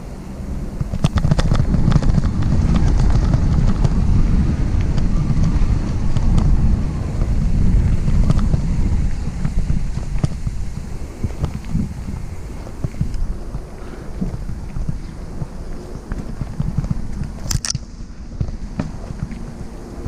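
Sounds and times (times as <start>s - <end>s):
wind buffeting microphone: 0.0s - 20.0s
bike clicks and rattles: 0.1s - 20.0s.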